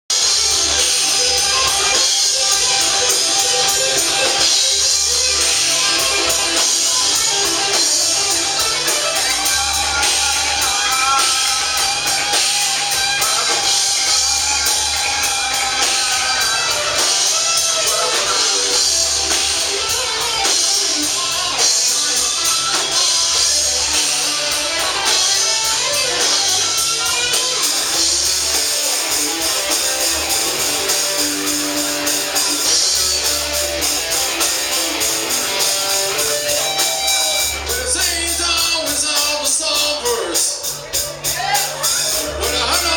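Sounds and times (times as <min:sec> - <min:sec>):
live band playing amplified music: 0:00.1 - 0:42.9.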